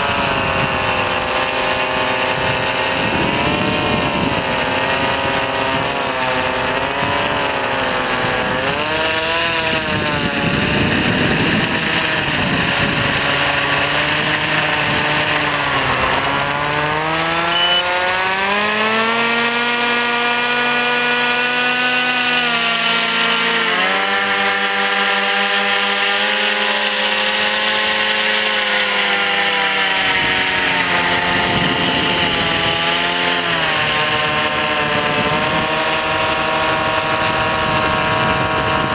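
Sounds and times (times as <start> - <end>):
propeller motors whining: 0.0 - 38.9.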